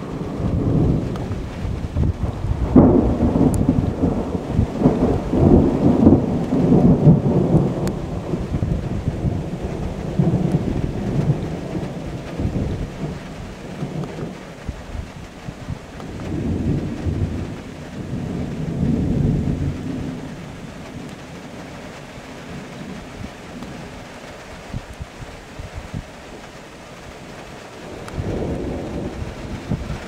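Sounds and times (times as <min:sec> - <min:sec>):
rain hissing: 0:00.0 - 0:30.0
rolling thunder rumble: 0:00.0 - 0:30.0.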